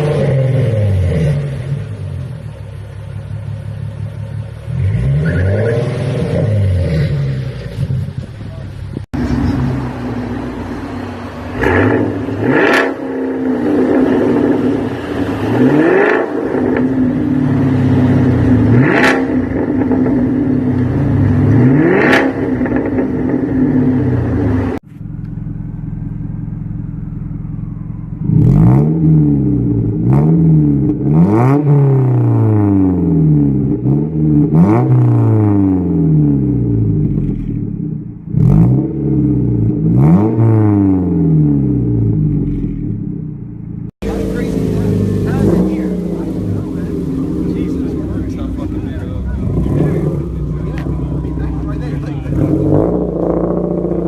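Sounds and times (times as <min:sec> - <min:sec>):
car engine revving: 0:00.0 - 0:54.0
exhaust cracks: 0:00.0 - 0:54.0.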